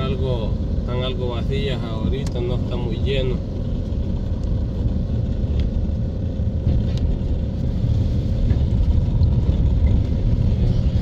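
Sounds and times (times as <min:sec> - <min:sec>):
car driving on wet street: 0:00.0 - 0:11.0.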